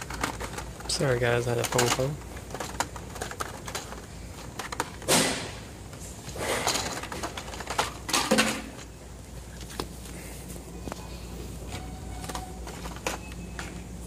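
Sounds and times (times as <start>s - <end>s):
plastic packs clattering and rustling: 0.0s - 13.9s.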